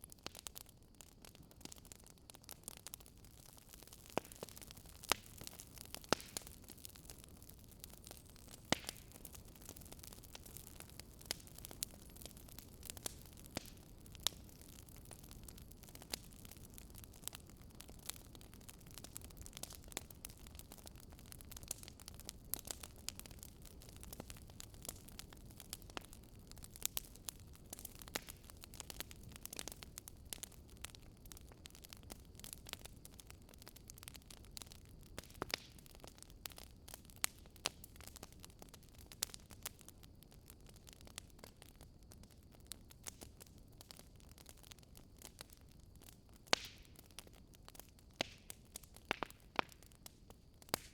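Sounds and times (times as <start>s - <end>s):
low steady hiss: 0.0s - 50.9s
wood fire crackling: 0.0s - 50.9s.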